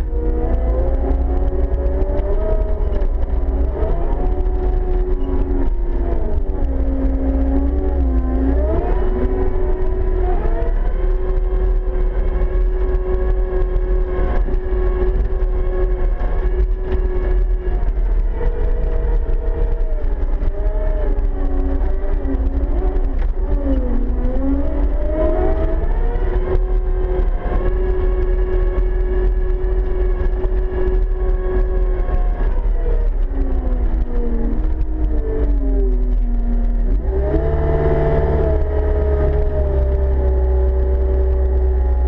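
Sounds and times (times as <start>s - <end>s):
deep engine rumble: 0.0s - 42.0s
whine from loader: 0.0s - 42.0s.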